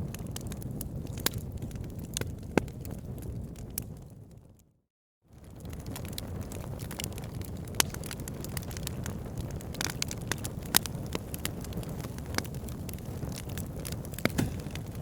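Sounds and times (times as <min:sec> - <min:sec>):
wood fire burning: 0:00.0 - 0:04.6, 0:05.3 - 0:15.0
fire crackles and pops: 0:00.0 - 0:04.7, 0:05.3 - 0:15.0.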